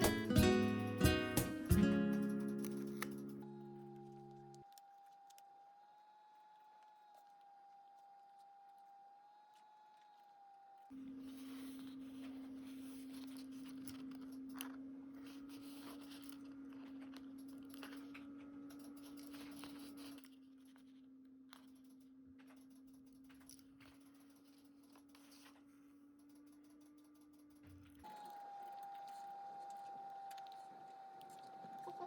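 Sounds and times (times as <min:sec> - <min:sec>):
paper and stickers rustling: 0:00.0 - 0:32.0.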